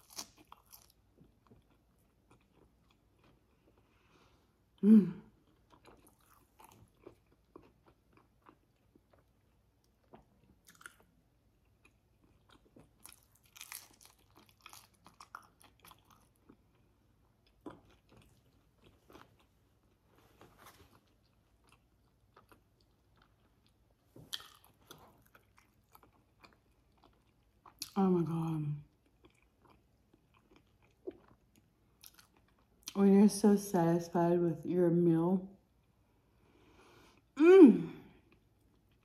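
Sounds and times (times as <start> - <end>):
person chewing fried food: 0.0 - 4.7, 5.4 - 28.0, 28.9 - 33.0, 38.3 - 39.0.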